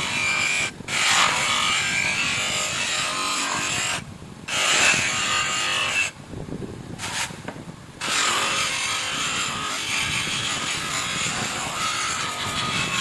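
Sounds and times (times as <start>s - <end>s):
abrasive scraping on metal: 0.0s - 6.2s, 8.0s - 13.0s.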